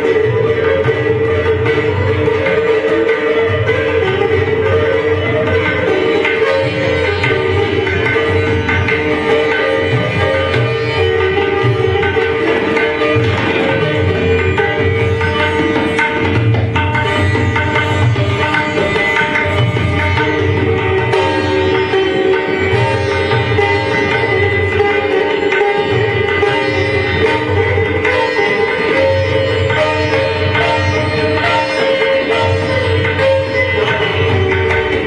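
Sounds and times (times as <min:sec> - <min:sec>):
plucked sitar melody: 0:00.0 - 0:35.0.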